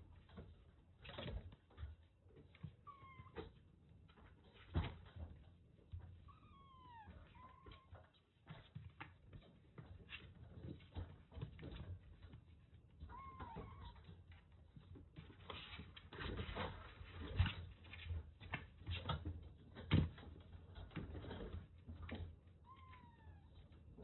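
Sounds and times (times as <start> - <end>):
kittens scuffling: 0.0 - 24.0.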